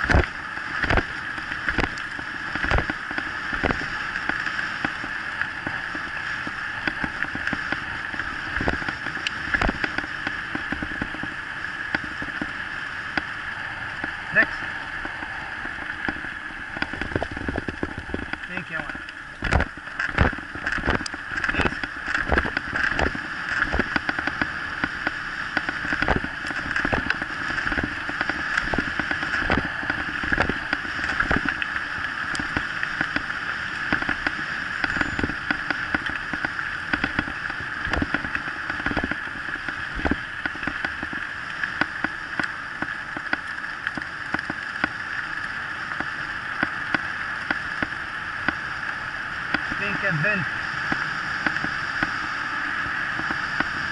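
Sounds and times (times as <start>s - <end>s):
scooter rolling over gravel: 0.0s - 13.3s, 14.0s - 53.9s.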